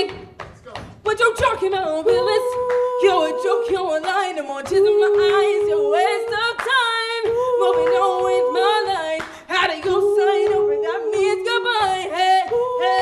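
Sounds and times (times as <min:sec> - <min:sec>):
vocal group singing in harmony: 0:01.1 - 0:13.0.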